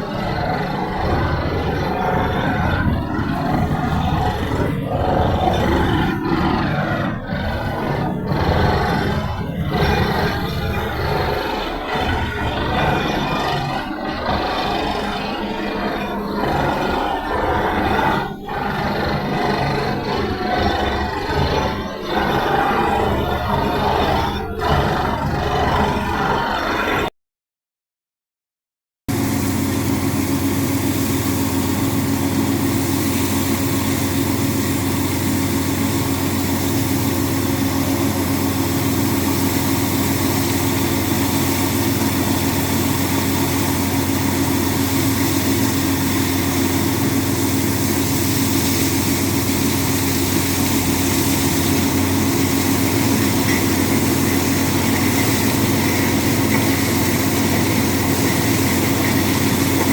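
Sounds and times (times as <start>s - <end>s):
drilling rig engine droning: 0.0s - 27.1s, 29.1s - 59.9s.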